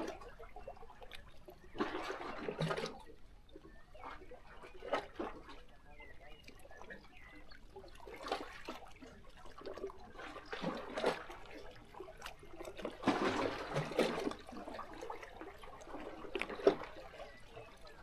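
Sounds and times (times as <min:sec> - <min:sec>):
waves lapping against rocks: 0:00.0 - 0:18.0.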